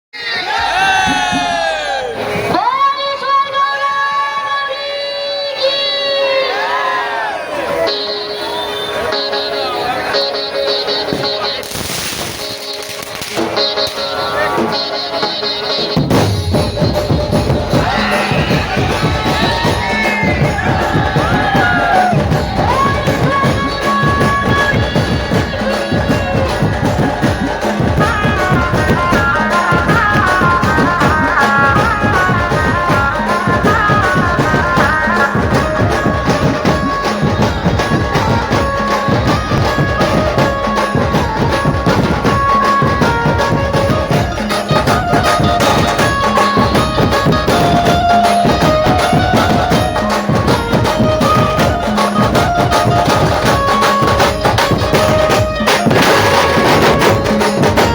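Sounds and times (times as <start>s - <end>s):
steady drum rhythm: 0.5s - 2.8s, 10.2s - 57.9s
high melody line: 7.7s - 57.9s.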